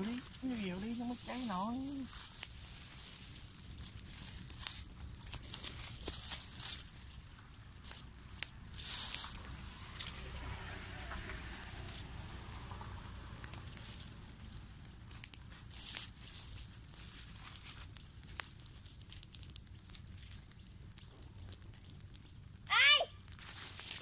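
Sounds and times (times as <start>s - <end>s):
dry leaves rustling: 0.0s - 24.0s
fire snapping: 0.0s - 24.0s
leaves crackling in fire: 0.0s - 24.0s.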